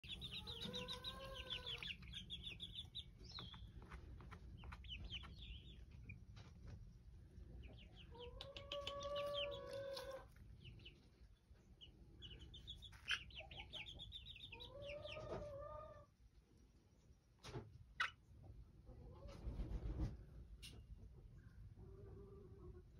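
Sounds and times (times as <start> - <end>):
chicks peeping: 0.0 - 20.2.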